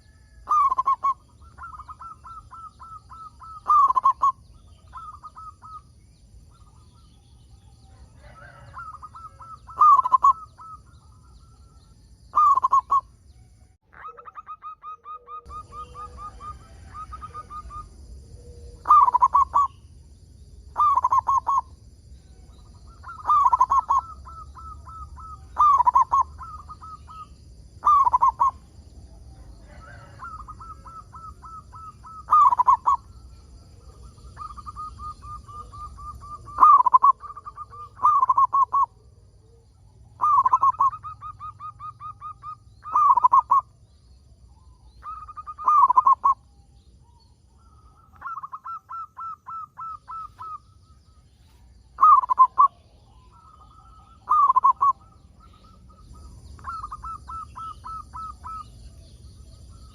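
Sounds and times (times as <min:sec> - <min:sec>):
dove cooing: 0:00.0 - 0:13.2, 0:13.9 - 0:19.8, 0:20.7 - 0:43.8, 0:44.6 - 0:59.9
faint high bird chirps: 0:00.0 - 0:59.9.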